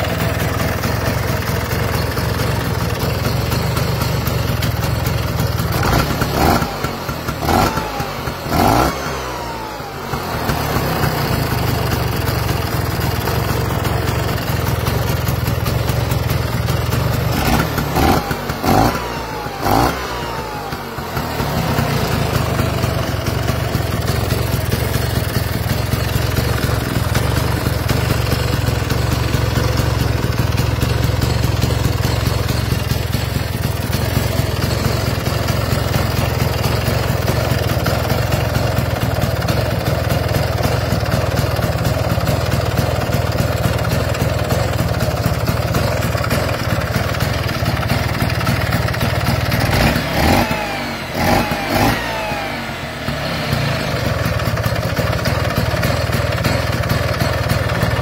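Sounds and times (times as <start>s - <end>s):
scooter engine running: 0.0s - 58.0s.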